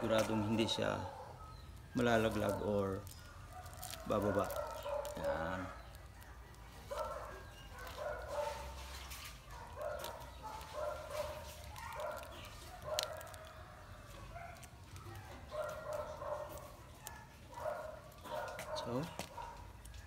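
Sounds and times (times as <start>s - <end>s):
plastic bag crinkling: 1.6s - 20.0s.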